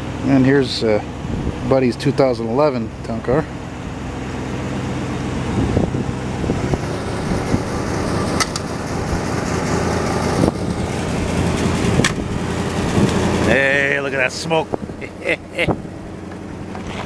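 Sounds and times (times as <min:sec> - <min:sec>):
car engines idling: 0:00.0 - 0:17.0.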